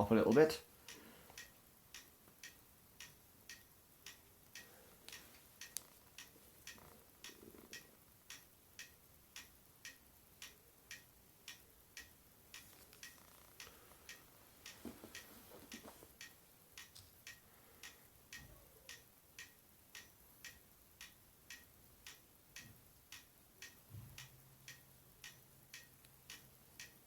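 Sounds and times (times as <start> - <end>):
faint steady ticking: 0.0 - 27.0.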